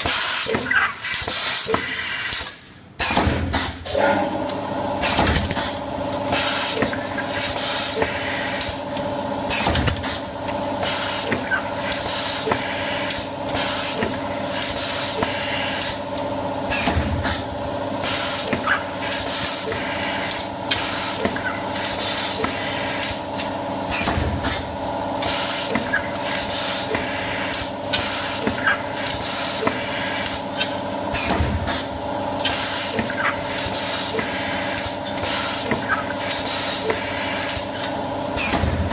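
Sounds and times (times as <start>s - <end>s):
machine motor hum: 3.2s - 38.9s.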